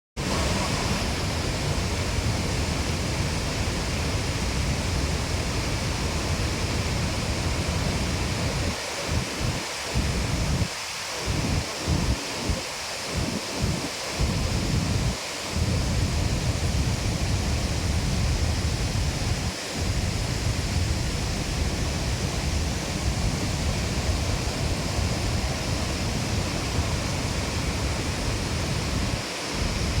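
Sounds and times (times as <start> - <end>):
waterfall roaring: 0.2 - 30.0
wind buffeting microphone: 0.3 - 30.0.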